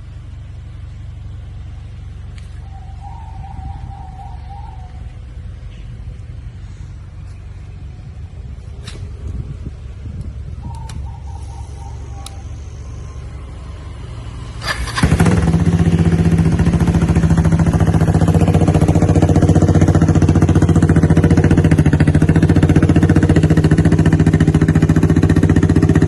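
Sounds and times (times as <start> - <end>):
motorcycle engine starting and idling: 0.0 - 26.0.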